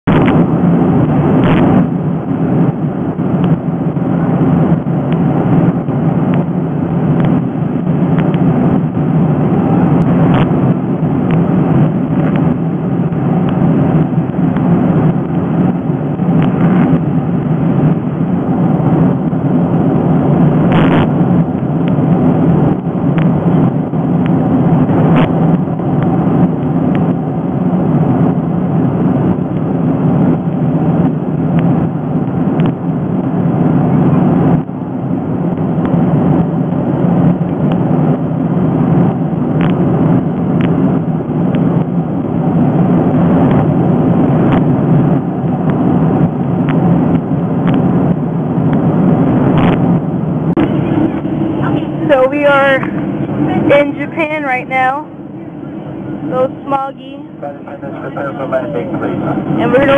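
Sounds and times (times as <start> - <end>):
jet cabin engine and air noise: 0.1 - 59.9.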